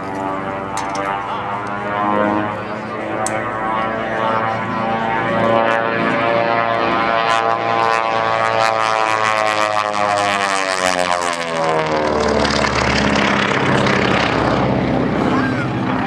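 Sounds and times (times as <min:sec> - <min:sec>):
propeller plane passing: 0:00.0 - 0:16.0.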